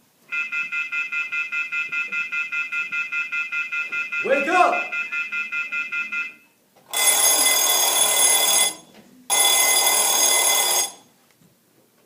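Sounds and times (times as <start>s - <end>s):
telephone bell ringing: 0.3s - 11.1s.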